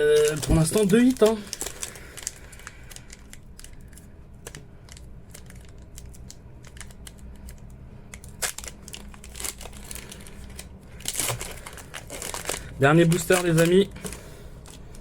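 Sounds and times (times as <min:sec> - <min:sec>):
foil wrapper crinkling: 0:00.2 - 0:15.0
cards being handled: 0:02.9 - 0:15.0.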